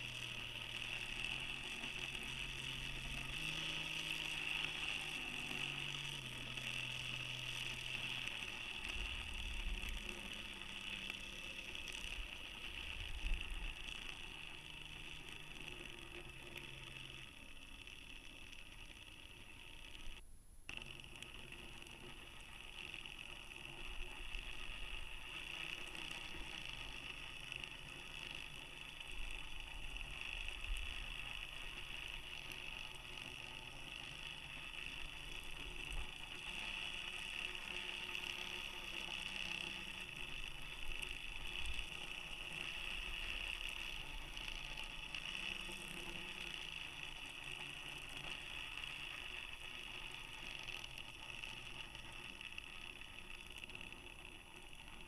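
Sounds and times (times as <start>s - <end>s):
steady hissing noise: 0.0s - 55.0s.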